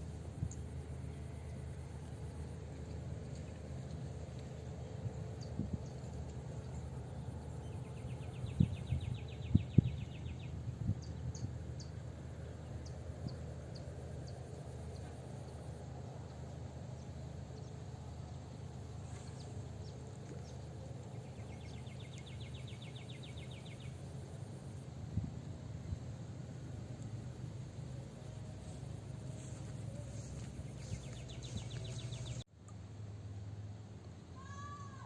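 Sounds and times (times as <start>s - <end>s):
steady low rumble: 0.0s - 34.2s.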